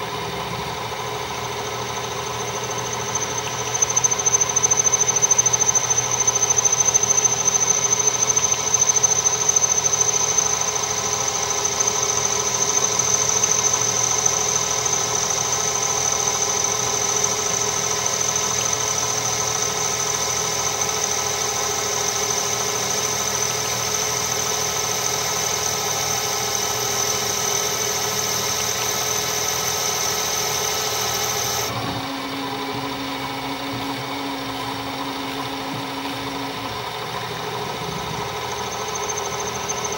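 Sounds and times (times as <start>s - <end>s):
lathe running hum: 0.0s - 39.9s
metal lathe cutting with high whine: 0.0s - 39.9s.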